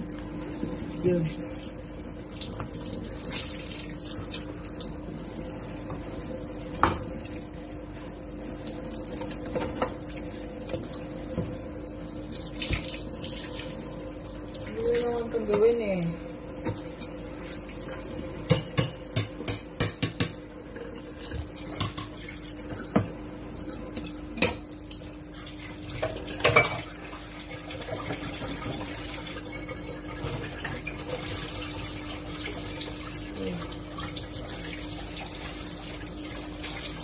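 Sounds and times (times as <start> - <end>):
water running from tap: 0.0 - 37.0.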